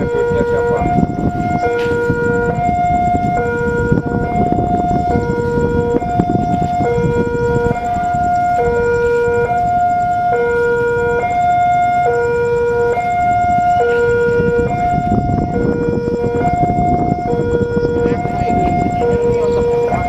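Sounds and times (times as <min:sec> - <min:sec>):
two-tone level crossing alarm: 0:00.0 - 0:20.0.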